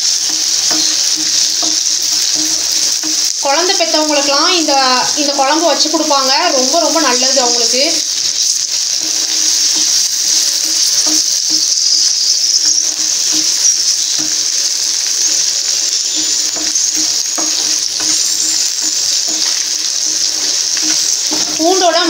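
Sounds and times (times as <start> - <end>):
shallots sizzling in hot oil: 0.0 - 22.0.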